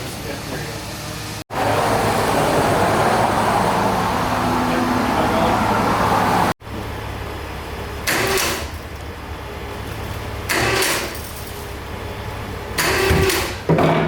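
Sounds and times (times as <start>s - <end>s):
road noise inside moving vehicle: 0.0s - 13.7s.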